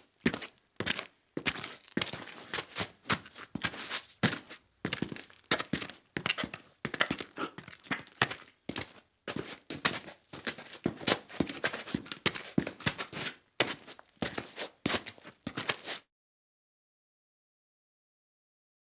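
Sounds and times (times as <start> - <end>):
footsteps in boots: 0.3 - 16.0.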